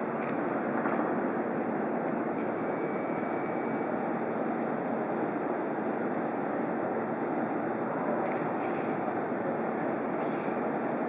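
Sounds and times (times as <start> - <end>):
electric trains rushing noise: 0.0 - 11.0.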